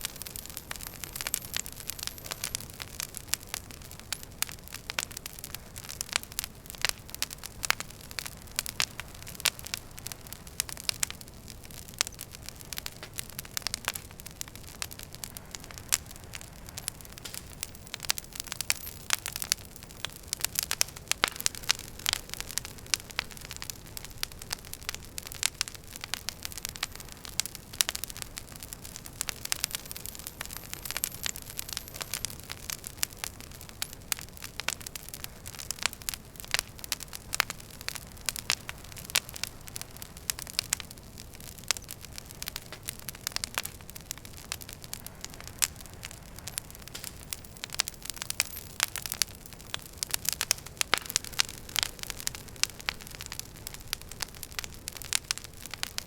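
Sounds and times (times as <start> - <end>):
low rumble of flames: 0.0 - 56.0
wood fire snapping and popping: 0.0 - 56.0.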